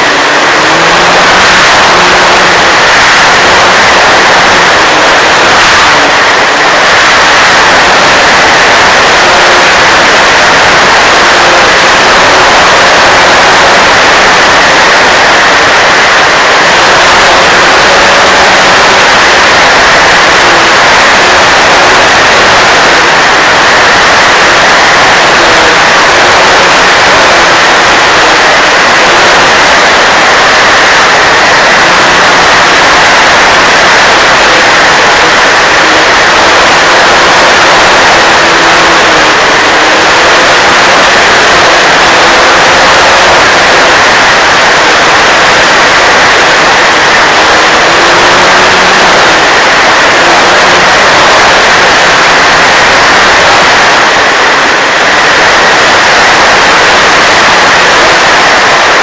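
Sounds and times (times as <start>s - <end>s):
loud rushing air noise: 0.0s - 59.0s.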